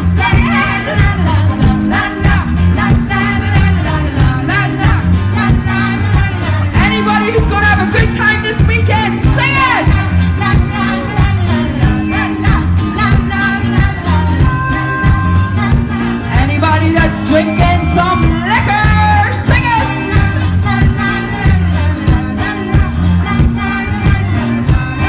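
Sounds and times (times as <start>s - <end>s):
live band playing: 0.0s - 25.0s
person singing: 0.0s - 25.0s.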